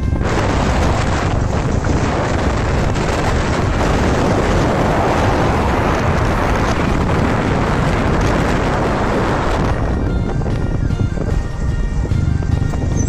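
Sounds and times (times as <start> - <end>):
moving vehicle running noise: 0.0 - 13.0
wind buffeting microphone: 0.0 - 13.0.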